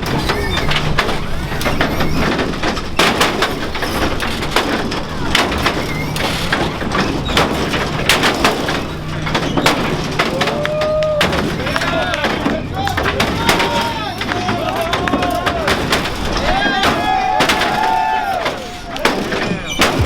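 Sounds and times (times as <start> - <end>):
sharp clacks and knocks: 0.0 - 20.0
vehicle engines rumbling: 0.0 - 20.0.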